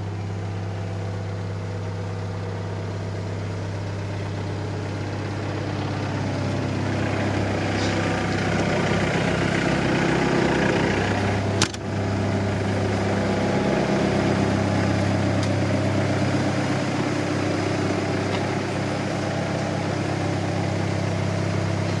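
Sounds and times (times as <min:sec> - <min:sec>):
excavator diesel engine idling: 0:00.0 - 0:22.0.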